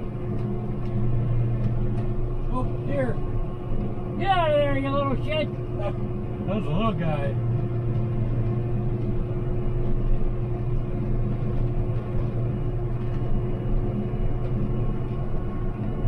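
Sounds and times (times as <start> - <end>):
diesel engine running steadily: 0.0 - 16.0.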